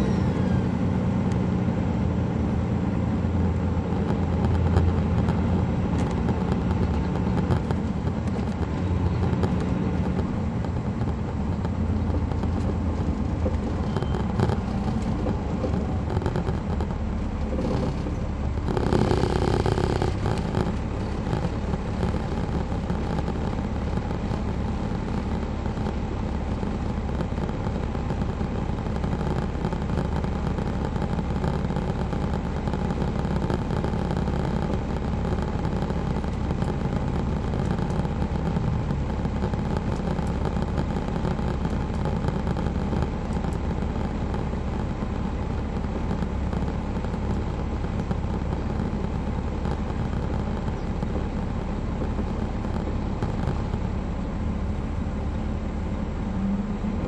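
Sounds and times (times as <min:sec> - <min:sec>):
diesel bus engine drone: 0:00.0 - 0:57.0
rush of noise: 0:03.4 - 0:53.8.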